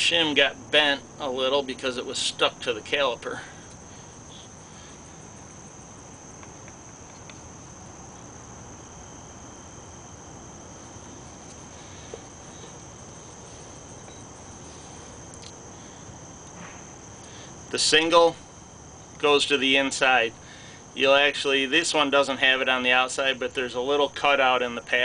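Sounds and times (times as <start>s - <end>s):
thin high steady tone: 0.0s - 25.0s.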